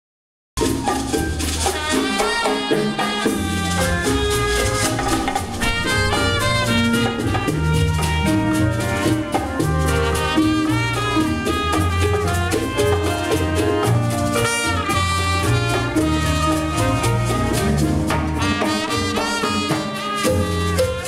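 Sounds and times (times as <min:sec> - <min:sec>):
congas: 0:00.6 - 0:21.0
brass section playing: 0:01.1 - 0:21.0
upright bass: 0:03.2 - 0:21.0.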